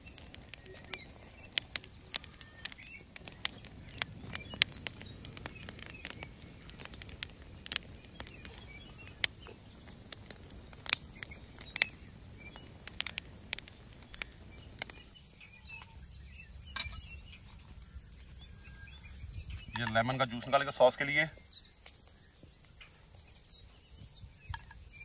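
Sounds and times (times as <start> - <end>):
birds chirping: 0.0 - 25.0
burning branches popping: 0.0 - 25.0
wood fire crackling: 0.0 - 25.0.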